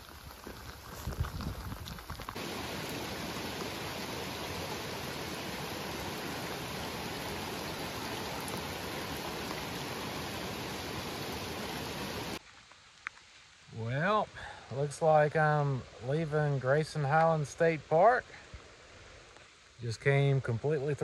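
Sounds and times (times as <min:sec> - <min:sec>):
creek running over rocks: 0:00.0 - 0:21.0.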